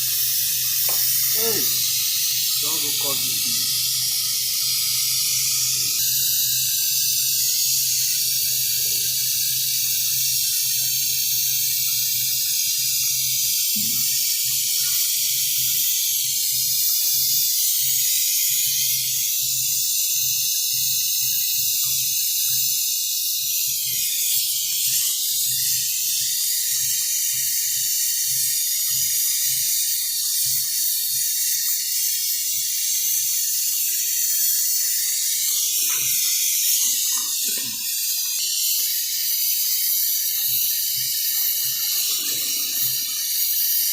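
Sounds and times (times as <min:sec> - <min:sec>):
hiss of pressurized gas: 0:00.0 - 0:43.9.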